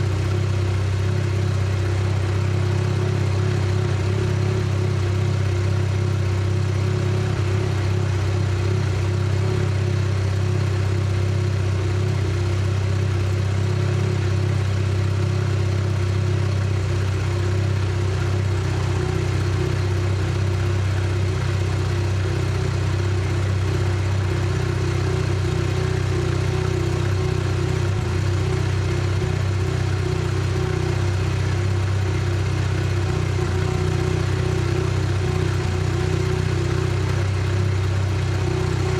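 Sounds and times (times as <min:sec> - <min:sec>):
rotary engine idling: 0:00.0 - 0:38.9.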